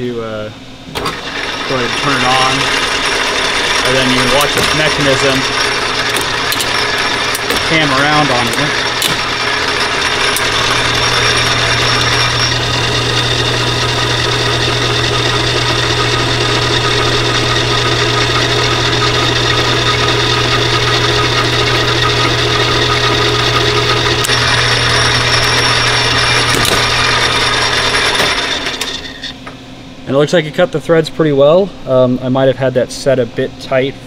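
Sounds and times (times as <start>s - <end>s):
lathe motor hum: 0.9s - 29.4s.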